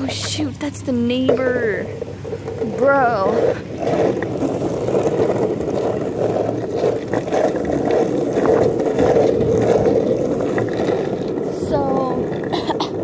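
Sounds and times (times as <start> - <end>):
faint clicks from road bumps: 0.0 - 13.0
longboard wheels rolling on asphalt: 0.0 - 13.0.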